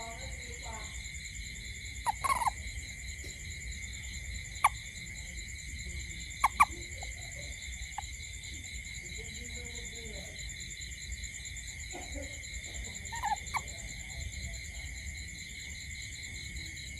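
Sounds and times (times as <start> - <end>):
frogs calling: 0.0 - 16.9
night insects chorus: 0.0 - 16.9.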